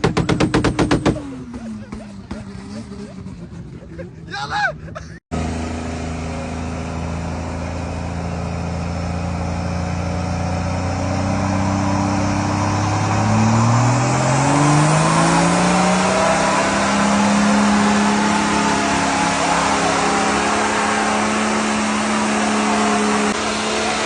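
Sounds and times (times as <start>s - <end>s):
car engine revving: 0.0s - 4.2s, 5.3s - 24.0s.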